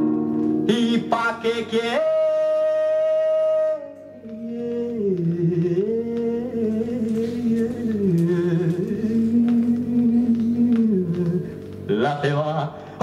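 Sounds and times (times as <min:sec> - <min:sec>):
song from record player: 0:00.0 - 0:13.0.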